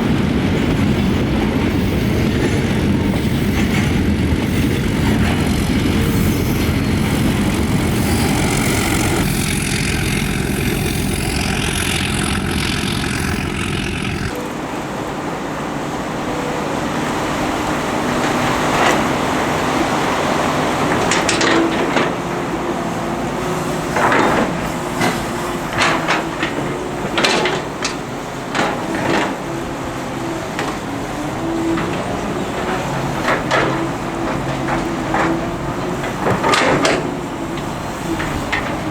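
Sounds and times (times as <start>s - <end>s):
excavator diesel engine rumbling: 0.0s - 38.9s.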